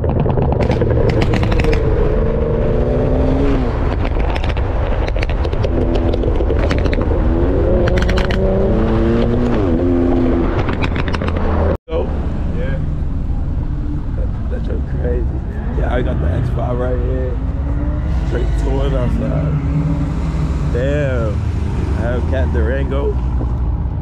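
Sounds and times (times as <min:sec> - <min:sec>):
engine crackles: 0:00.0 - 0:24.0
car engine revving: 0:00.5 - 0:24.0.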